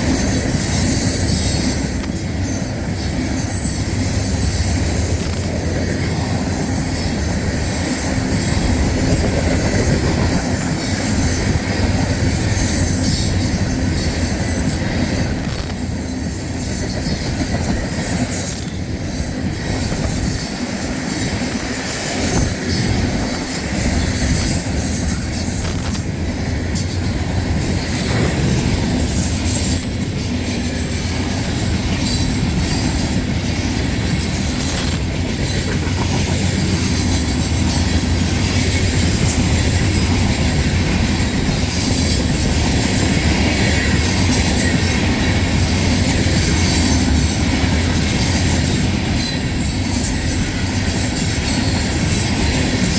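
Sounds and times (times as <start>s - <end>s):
train cars rumbling past: 0.0s - 52.9s
wheel squeal: 0.0s - 52.9s
wheels clicking over rail joints: 0.0s - 52.9s.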